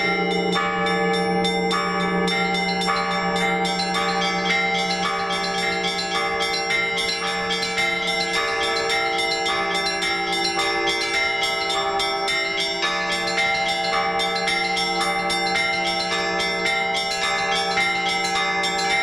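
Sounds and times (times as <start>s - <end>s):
large bell humming: 0.0s - 19.0s
small church bells ringing: 0.0s - 19.0s.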